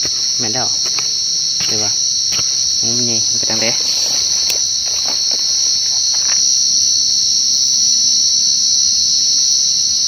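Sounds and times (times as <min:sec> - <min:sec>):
cricket trilling: 0:00.0 - 0:10.0.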